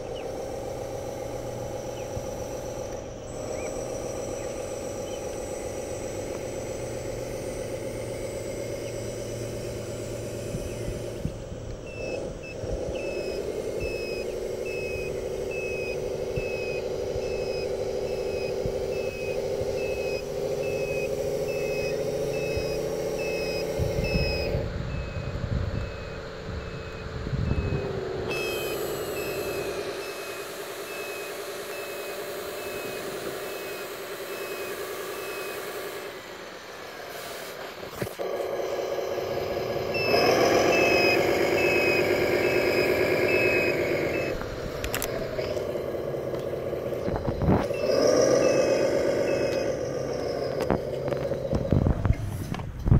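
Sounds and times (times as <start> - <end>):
reversing beeper beeping: 0.0 - 37.4, 38.2 - 51.8
diesel engine sound effect: 0.0 - 52.9.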